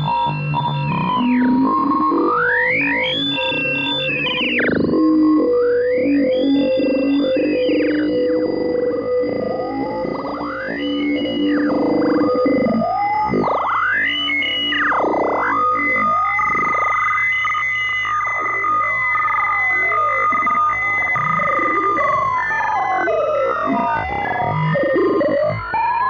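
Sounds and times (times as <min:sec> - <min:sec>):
electronic tones sweeping: 0:00.0 - 0:25.6.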